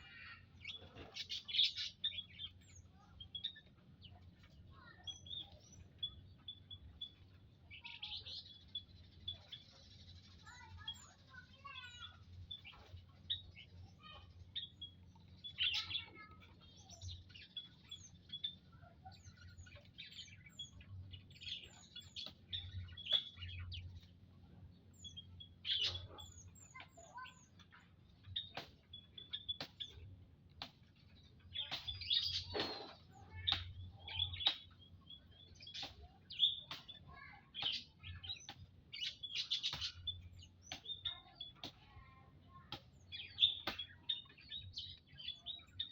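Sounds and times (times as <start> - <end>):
birds chirping: 0.0 - 45.9
high falling bird calls: 0.0 - 45.9.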